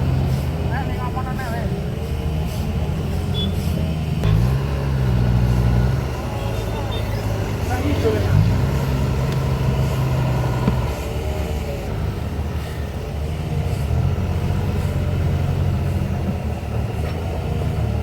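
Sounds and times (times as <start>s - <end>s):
large engine running: 0.0s - 18.0s.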